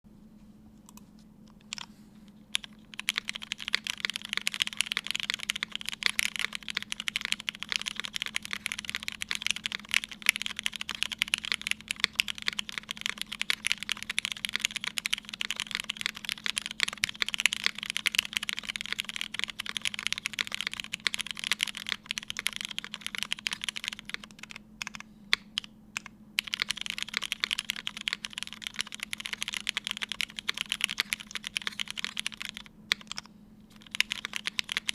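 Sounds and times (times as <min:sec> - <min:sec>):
mechanical keyboard typing: 0:02.5 - 0:34.9.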